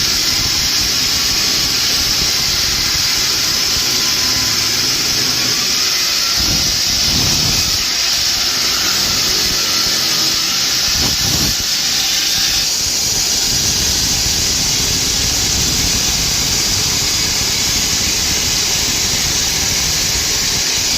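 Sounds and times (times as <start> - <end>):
machine running with hiss: 0.0 - 20.9.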